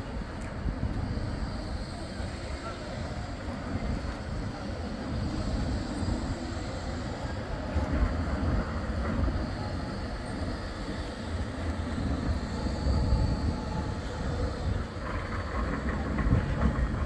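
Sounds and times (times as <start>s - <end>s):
faint high whine: 0.0s - 17.0s
tram wheels rumbling on rail: 0.0s - 17.0s.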